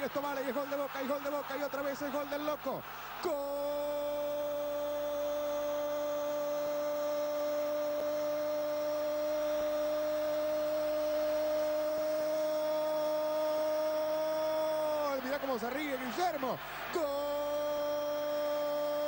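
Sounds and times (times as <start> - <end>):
commentator shouting goal: 0.0 - 8.4, 9.2 - 19.0.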